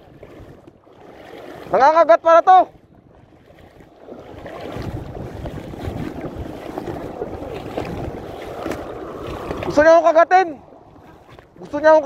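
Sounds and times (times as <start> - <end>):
wind buffeting microphone: 0.0 - 1.8, 2.6 - 12.0
seawater sloshing and lapping: 0.0 - 12.0.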